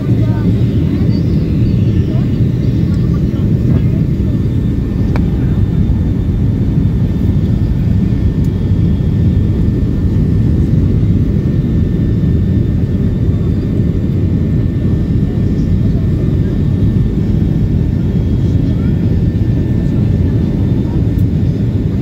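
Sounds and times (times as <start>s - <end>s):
faint high whine: 0.0s - 21.0s
jet engine and airflow rumble: 0.0s - 22.0s.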